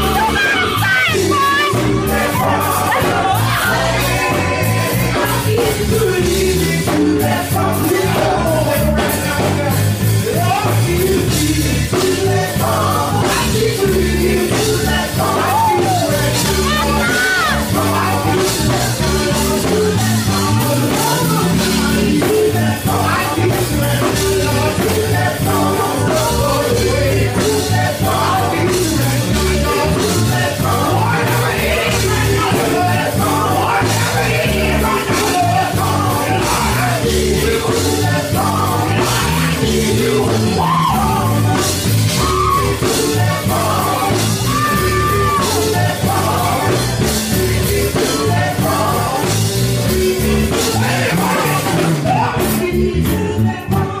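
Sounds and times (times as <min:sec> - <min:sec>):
gospel song with band and singing: 0:00.0 - 0:54.0.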